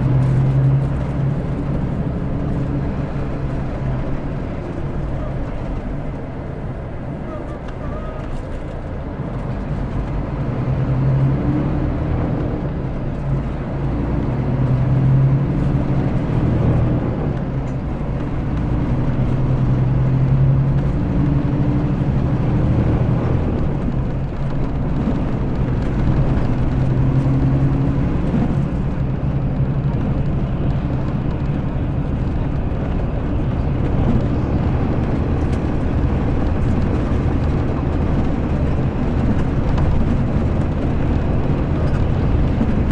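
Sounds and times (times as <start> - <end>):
diesel bus engine running: 0.0 - 42.9
road noise: 0.0 - 42.9.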